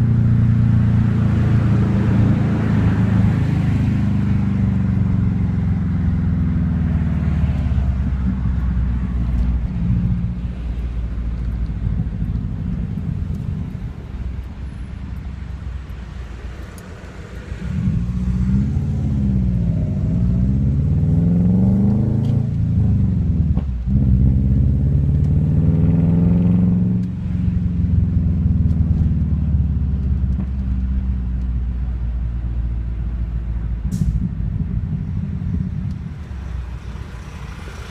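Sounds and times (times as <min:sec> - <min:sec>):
car engine and loud exhaust: 0:00.0 - 0:37.9.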